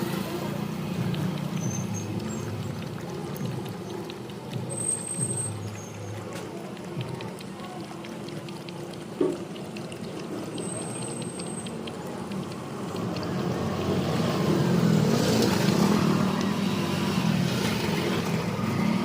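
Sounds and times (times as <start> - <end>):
puppy lapping water: 0.0 - 19.0.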